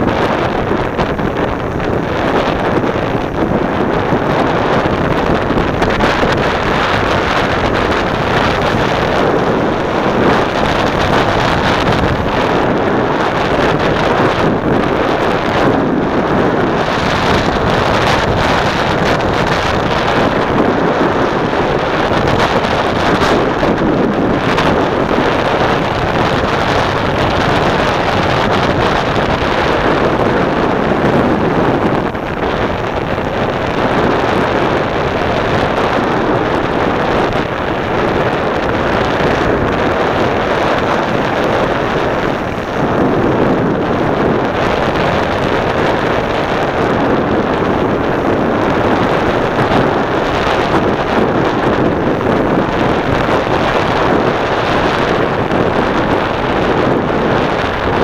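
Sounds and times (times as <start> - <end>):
wind on microphone: 0.0 - 58.0.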